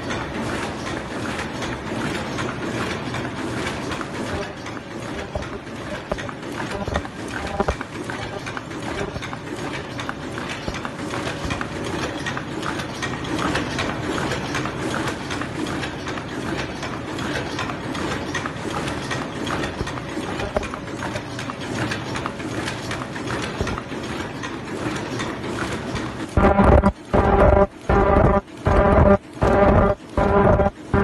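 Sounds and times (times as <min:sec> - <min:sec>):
machine clattering with rapid clicks: 0:00.0 - 0:31.0.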